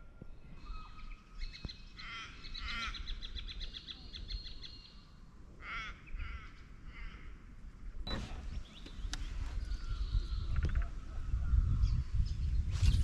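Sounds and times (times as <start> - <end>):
birds harsh calls: 0.0 - 13.0.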